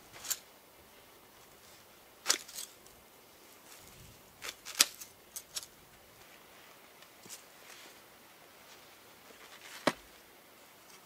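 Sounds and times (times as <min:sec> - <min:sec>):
quiet hiss: 0:00.0 - 0:11.0.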